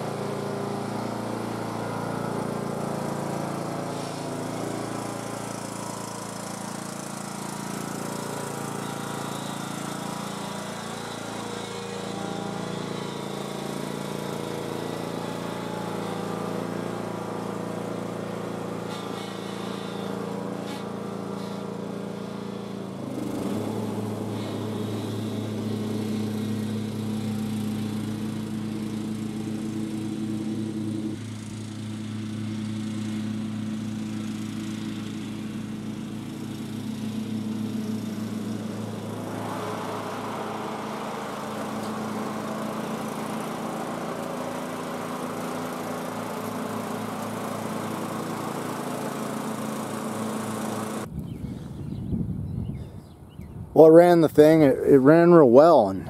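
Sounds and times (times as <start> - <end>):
lawn tractor engine running: 0.0 - 52.0, 53.8 - 56.0.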